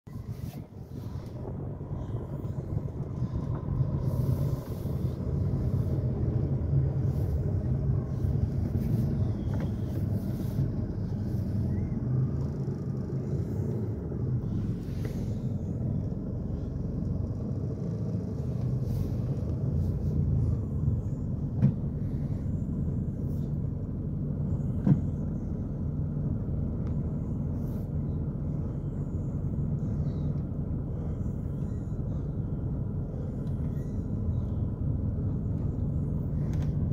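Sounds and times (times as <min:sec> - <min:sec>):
car engine and tyres running: 0:00.0 - 0:36.9.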